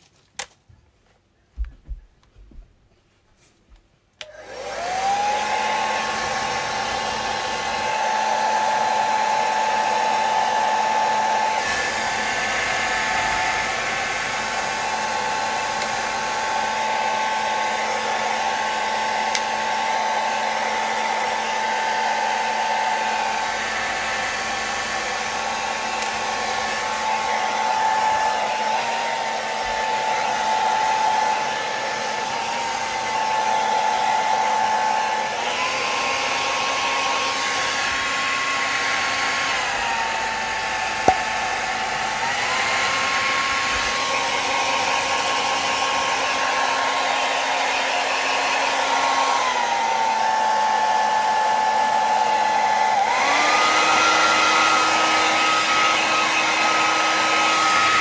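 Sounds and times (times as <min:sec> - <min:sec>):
hair dryer motor whine: 0:04.2 - 0:58.0.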